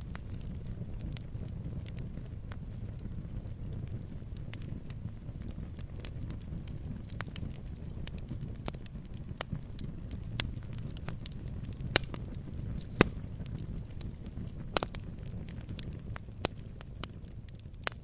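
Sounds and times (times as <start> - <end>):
burning wood crackling and popping: 0.0 - 18.0
campfire low rumble: 0.0 - 18.0.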